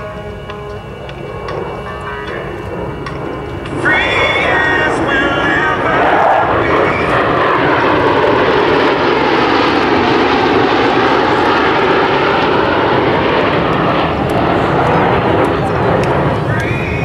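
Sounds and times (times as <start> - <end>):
jets flying overhead roaring: 0.0 - 17.0.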